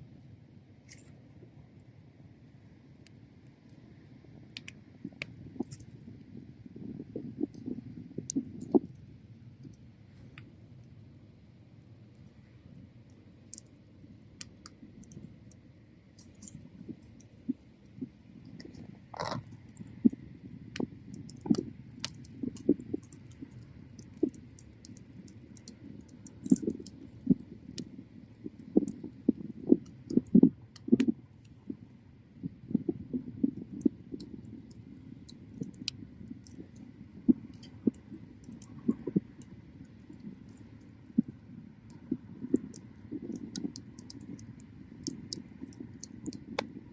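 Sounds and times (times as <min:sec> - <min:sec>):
low rumble of flames: 0:00.0 - 0:46.9
bonfire crackling and popping: 0:03.0 - 0:11.0, 0:12.0 - 0:46.9.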